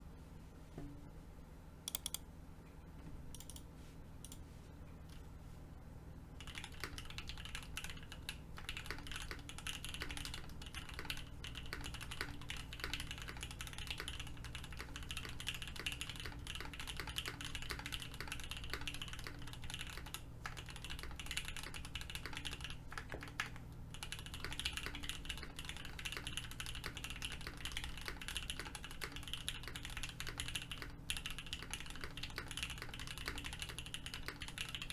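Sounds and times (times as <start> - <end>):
typing on mechanical keyboard: 6.4 - 34.9.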